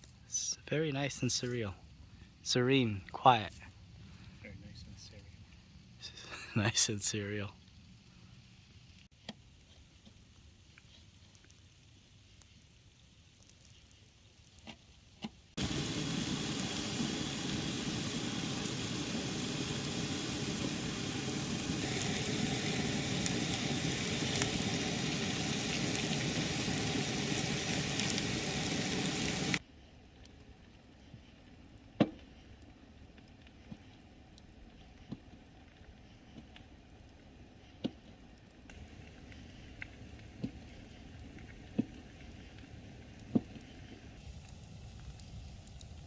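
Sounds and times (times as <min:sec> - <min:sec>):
campfire hissing and crackling: 0:00.0 - 0:46.0.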